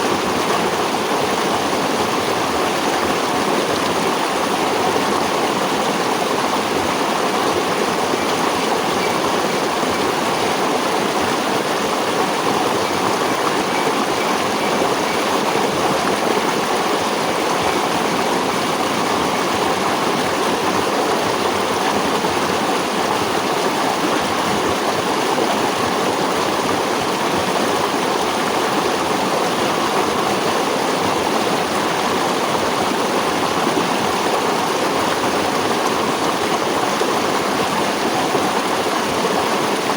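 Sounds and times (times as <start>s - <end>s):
stream water rushing and splashing: 0.0s - 39.9s.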